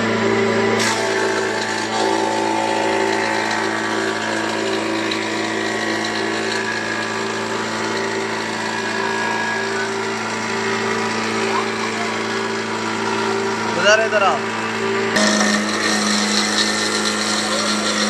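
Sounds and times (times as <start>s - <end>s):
power tool motor humming: 0.0s - 18.0s.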